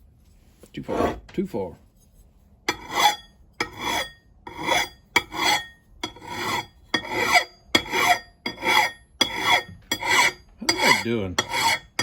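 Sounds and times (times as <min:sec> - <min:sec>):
file rasping on axe head: 0:00.9 - 0:01.2, 0:02.7 - 0:12.0.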